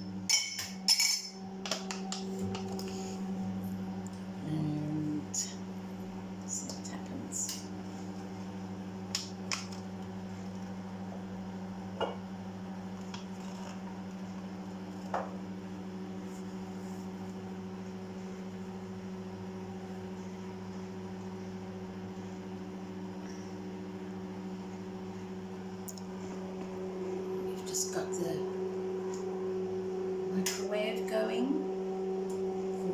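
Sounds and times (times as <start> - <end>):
microwave electrical hum: 0.0 - 32.9.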